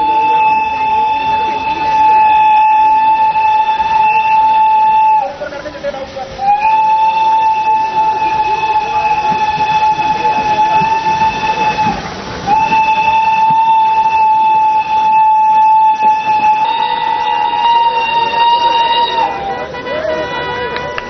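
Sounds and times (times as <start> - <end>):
locomotive whistle blasts: 0.0 - 21.0
train rumbling: 0.0 - 21.0.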